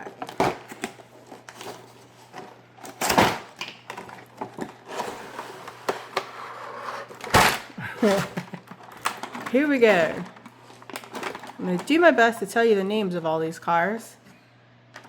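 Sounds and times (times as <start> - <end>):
packaging clicks and rustling: 0.0 - 12.3.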